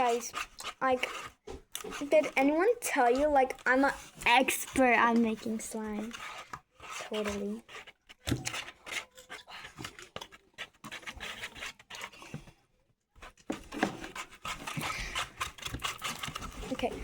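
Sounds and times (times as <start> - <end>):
spoon scraping a bowl: 0.0 - 12.4, 13.2 - 17.0.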